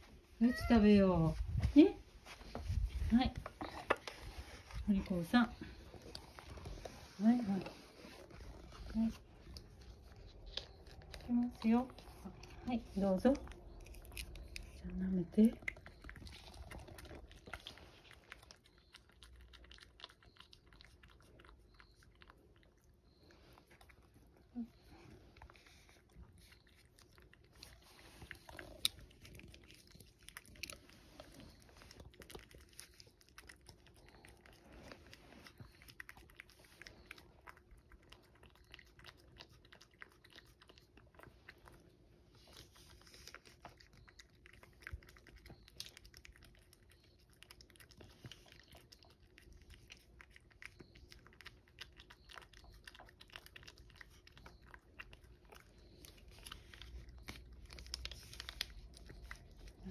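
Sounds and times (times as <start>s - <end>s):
cat licking from dish: 3.4s - 59.9s.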